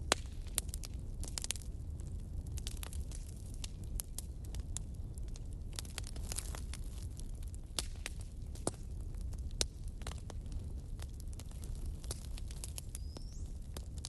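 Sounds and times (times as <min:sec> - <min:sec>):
fire burning: 0:00.0 - 0:14.0
fire crackles and pops: 0:00.0 - 0:14.0.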